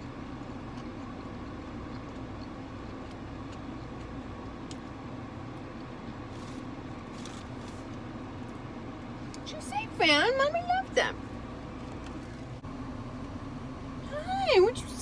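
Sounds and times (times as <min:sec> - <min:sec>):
car engine rumble inside car: 0:00.0 - 0:15.0.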